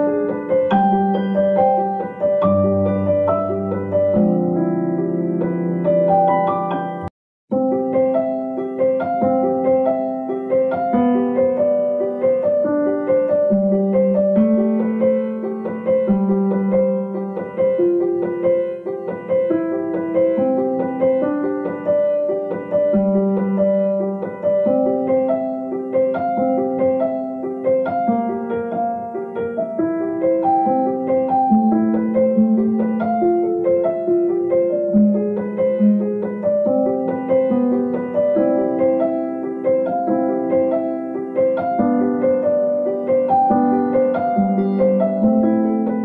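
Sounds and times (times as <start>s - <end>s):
slow piano piece: 0.0s - 46.0s.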